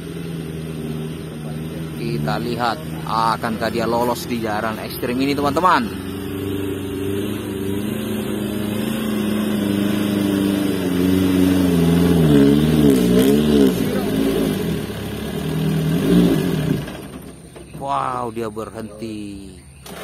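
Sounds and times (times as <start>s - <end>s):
truck engine labouring: 0.0s - 20.0s.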